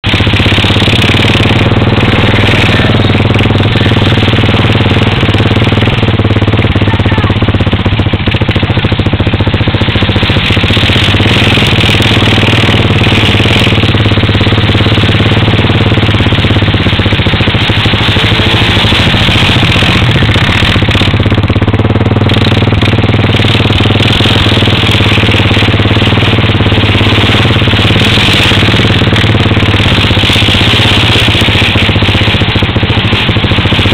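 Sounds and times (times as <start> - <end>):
quad bike engines running: 0.0 - 33.9.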